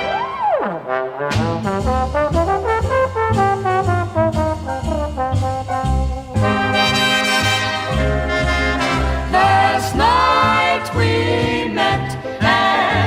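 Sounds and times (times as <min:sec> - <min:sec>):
brass melody: 0:00.0 - 0:12.9
bass line: 0:00.0 - 0:13.0.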